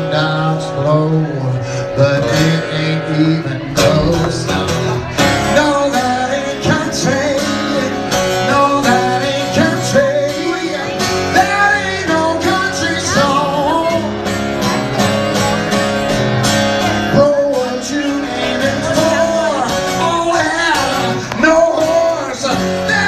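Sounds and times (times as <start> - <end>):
man singing into a microphone: 0.0 - 15.4, 16.7 - 23.0
acoustic guitar strumming: 0.0 - 23.0.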